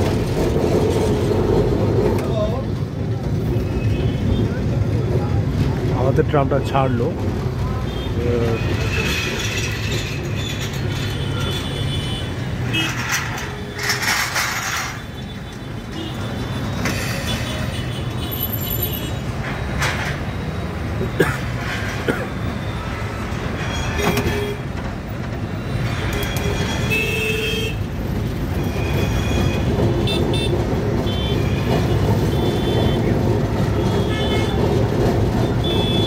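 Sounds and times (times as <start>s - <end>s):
tram rumbling on track: 0.0s - 36.0s.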